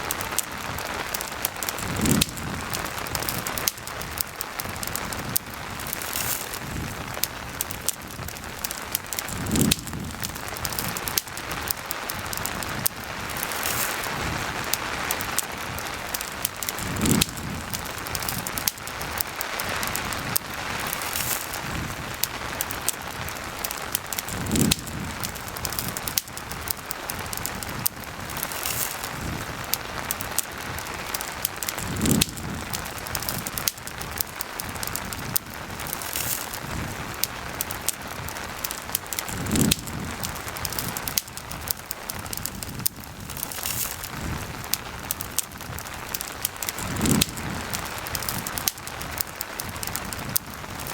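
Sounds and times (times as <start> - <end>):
campfire crackling: 0.0 - 50.9
steady rain falling: 0.0 - 50.9.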